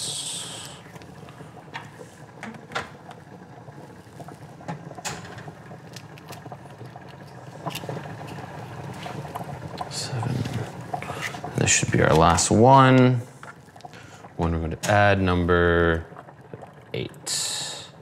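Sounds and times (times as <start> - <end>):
pot boiling: 0.0 - 18.0.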